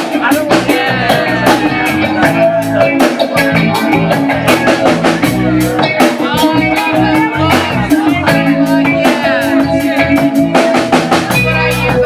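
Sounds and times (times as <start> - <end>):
drum kit beat: 0.0 - 12.0
electric bass: 0.0 - 12.0
electric guitar: 0.0 - 12.0.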